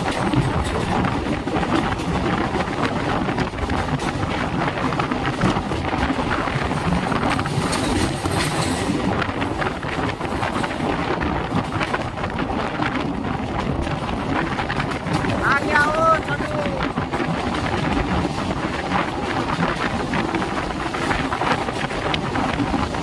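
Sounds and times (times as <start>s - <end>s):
train rumbling on rails: 0.0s - 23.0s
wind noise: 0.0s - 23.0s.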